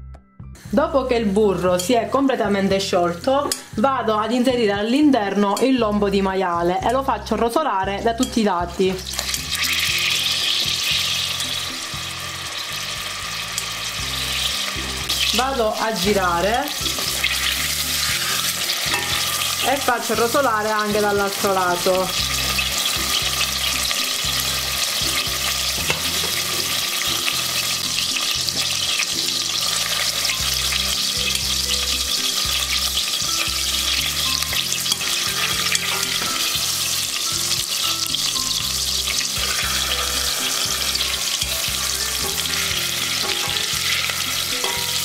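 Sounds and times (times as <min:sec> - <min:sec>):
meat sizzling in a pot: 0:06.9 - 0:45.0.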